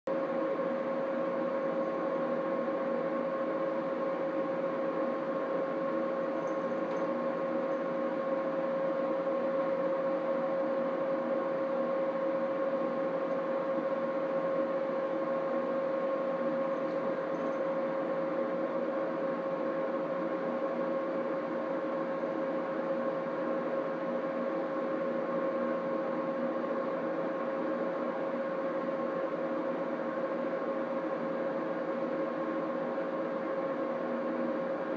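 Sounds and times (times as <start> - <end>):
machine hum: 0.1 - 34.9.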